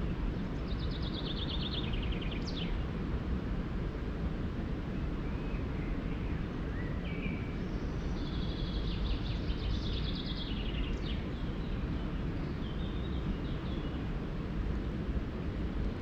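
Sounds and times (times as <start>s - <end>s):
songbirds singing: 0.0s - 3.1s, 4.9s - 14.8s
low background noise: 0.0s - 16.0s.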